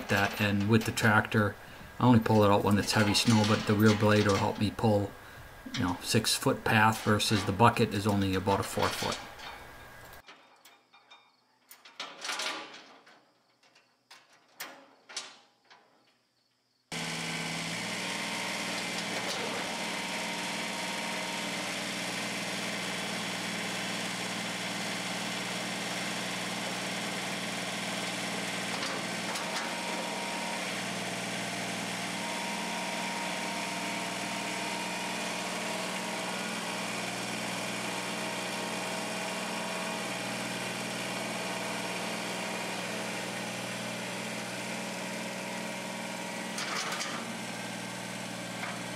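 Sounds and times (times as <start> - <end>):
tractor diesel engine running: 0.0 - 10.2, 16.9 - 48.9.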